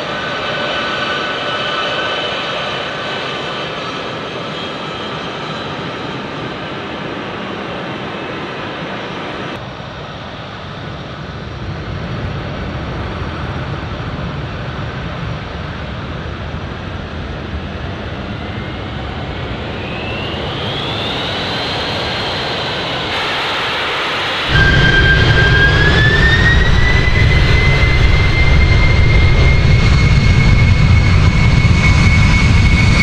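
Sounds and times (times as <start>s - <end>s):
jet engine whine rising: 0.0s - 33.0s
jet engines rumbling: 0.0s - 33.0s.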